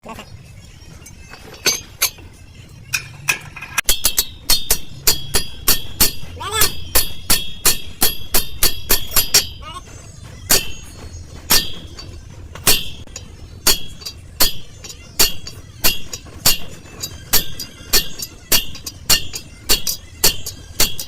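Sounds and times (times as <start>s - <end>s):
hammer striking steel hub: 1.2s - 2.3s, 2.9s - 21.0s.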